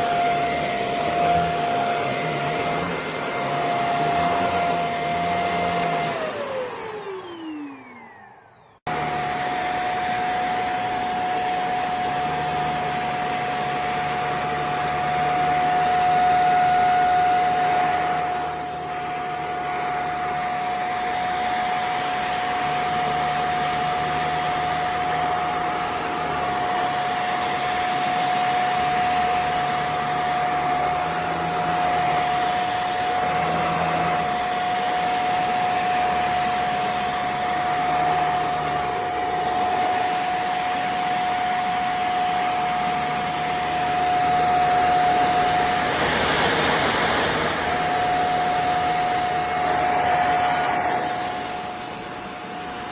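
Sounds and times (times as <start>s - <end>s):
vacuum cleaner motor whine: 0.0s - 52.9s.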